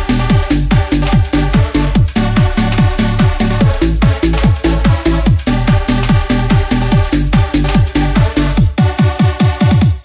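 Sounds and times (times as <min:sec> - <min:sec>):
fast electronic dance music: 0:00.0 - 0:10.0.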